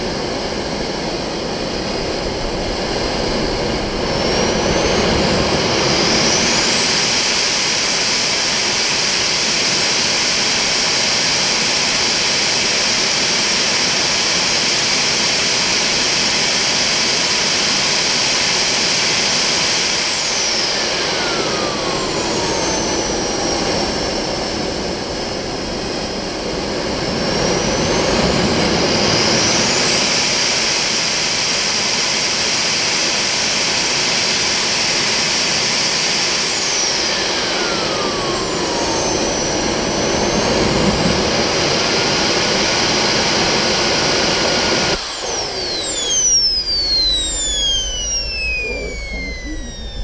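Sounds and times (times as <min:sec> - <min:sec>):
turbojet engine whine: 0:00.0 - 0:50.0.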